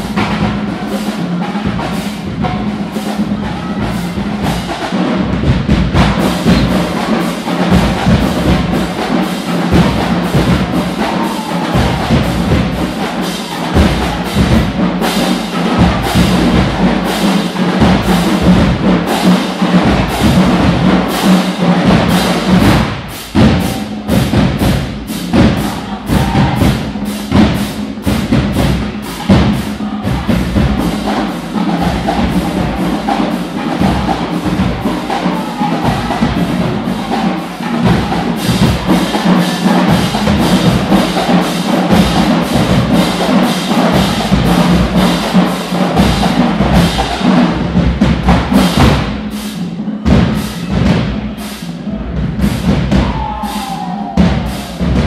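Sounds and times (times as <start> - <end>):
drums beating fast: 0.0 - 55.0
marching band playing: 0.0 - 55.0.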